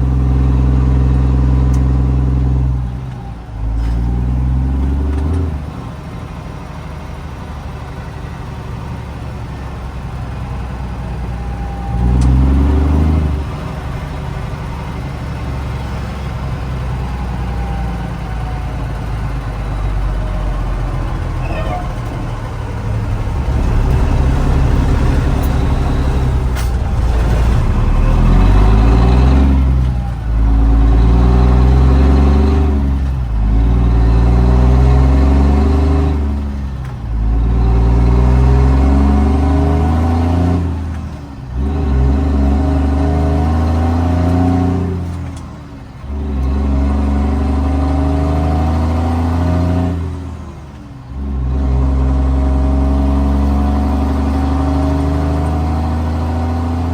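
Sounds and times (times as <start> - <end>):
diesel truck accelerating through gears: 0.0 - 56.9.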